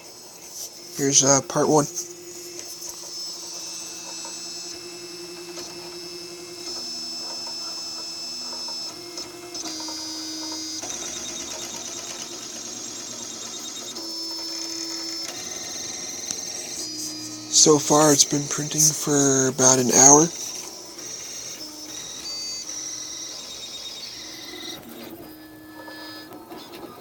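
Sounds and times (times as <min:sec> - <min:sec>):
stepper motors whining: 0:00.0 - 0:27.0.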